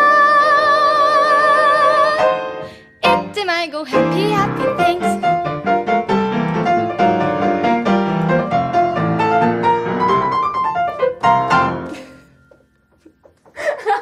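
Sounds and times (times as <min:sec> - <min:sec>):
piano playing pop tune: 0:00.0 - 0:14.0.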